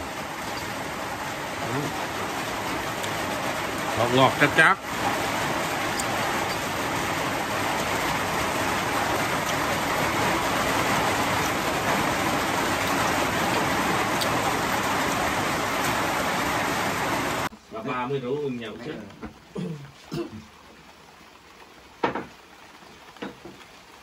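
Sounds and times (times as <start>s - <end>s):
rain drop ticks: 0.0s - 16.4s, 18.4s - 24.0s
steady rain falling: 0.0s - 24.0s.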